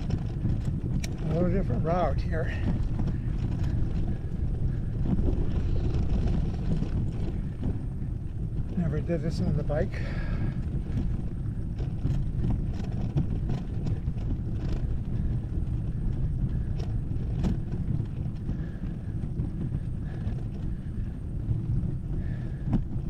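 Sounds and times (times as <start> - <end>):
bike clicks and rattles: 0.0 - 23.0
tyre and wind rumble: 0.0 - 23.0.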